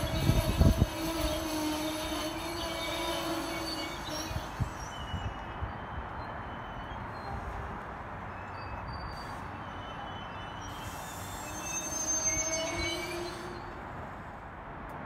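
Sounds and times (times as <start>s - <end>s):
train wheels squealing: 0.0s - 14.3s
train coaches rumbling past: 0.0s - 15.0s.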